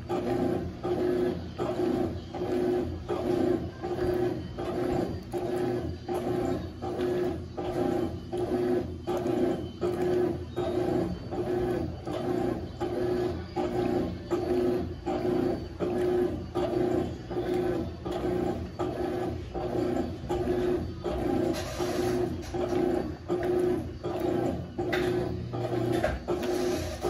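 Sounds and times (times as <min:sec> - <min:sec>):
washing machine agitating: 0:00.0 - 0:27.0.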